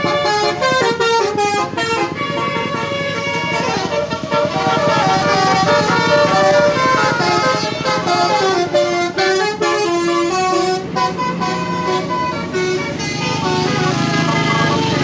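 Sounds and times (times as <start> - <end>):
bus musical horn tune: 0.0 - 15.0.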